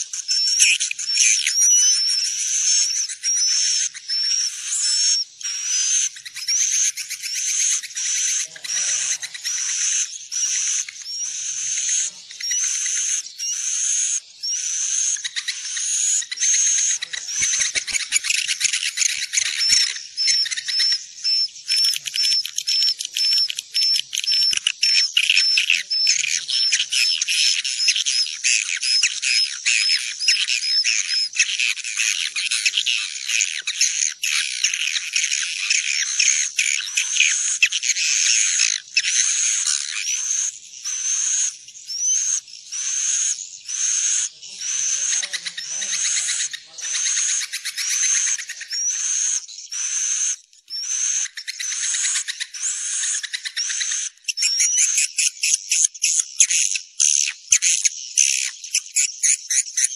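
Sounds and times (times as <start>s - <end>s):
swiftlets twittering and chirping: 0.0s - 59.9s.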